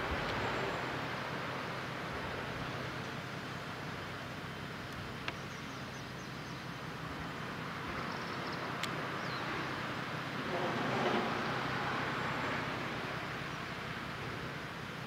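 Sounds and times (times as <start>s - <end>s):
ship engines droning: 0.0s - 15.0s
wind and water hiss: 0.0s - 15.0s.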